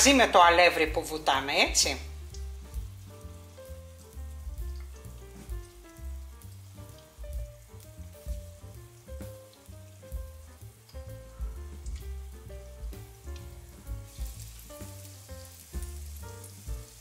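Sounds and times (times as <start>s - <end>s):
background music with bass line: 0.0s - 17.0s
fritters sizzling in hot oil: 0.0s - 17.0s.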